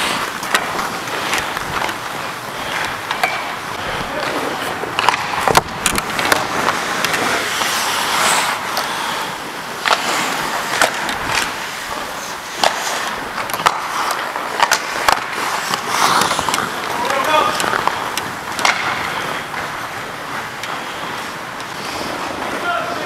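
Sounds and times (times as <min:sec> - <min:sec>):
skate blades scraping ice: 0:00.0 - 0:23.0
sticks and puck clicking on ice: 0:00.0 - 0:23.0.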